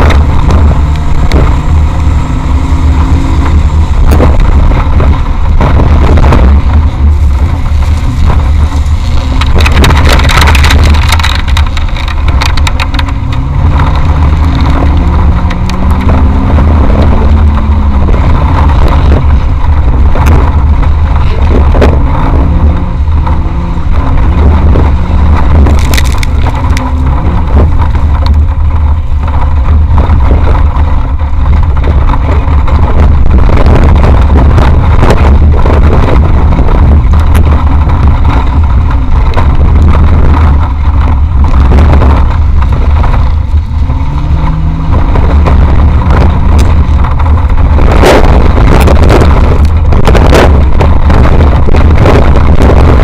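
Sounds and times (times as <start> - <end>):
knocks and rattles: 0.0 - 53.0
off-road vehicle engine rumble: 0.0 - 53.0.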